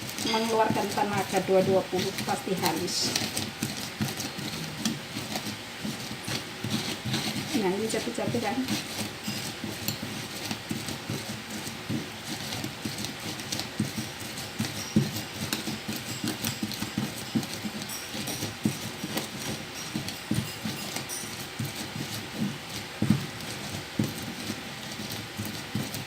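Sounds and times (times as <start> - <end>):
pestle pounding in mortar: 0.0 - 26.0.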